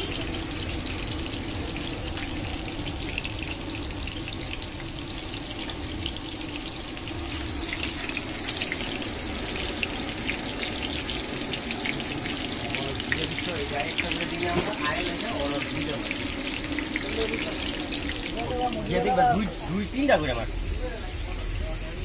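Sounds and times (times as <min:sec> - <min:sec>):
meat sizzling on a griddle: 0:00.0 - 0:22.0.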